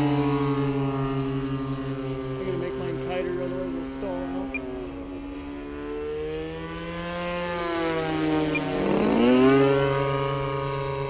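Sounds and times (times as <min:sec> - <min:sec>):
model airplane engine steady tone: 0:00.0 - 0:11.0
model airplane passing close: 0:00.0 - 0:11.0.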